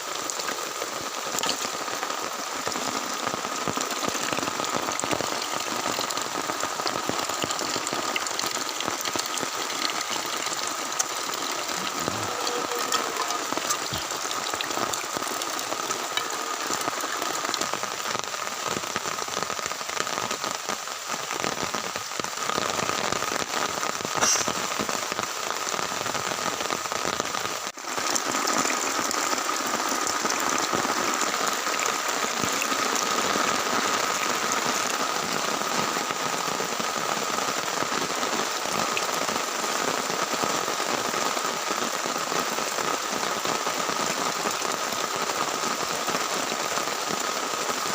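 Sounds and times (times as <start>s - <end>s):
heavy rain on a tent: 0.0s - 47.9s.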